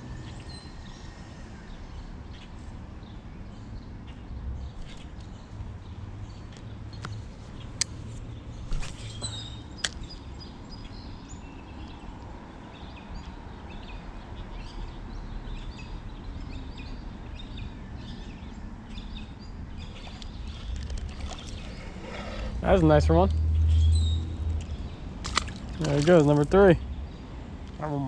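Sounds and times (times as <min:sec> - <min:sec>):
birds chirping: 0:03.1 - 0:28.0
low outdoor rumble: 0:04.3 - 0:28.0.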